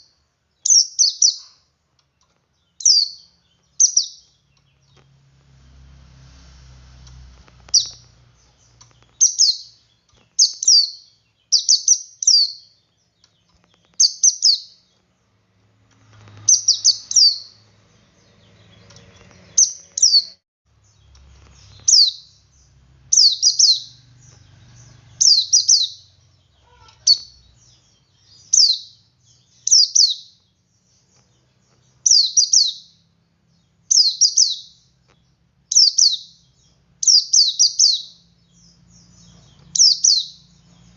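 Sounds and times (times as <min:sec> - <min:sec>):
bird singing high phrases: 0:00.0 - 0:05.2, 0:07.6 - 0:15.4, 0:16.2 - 0:40.9.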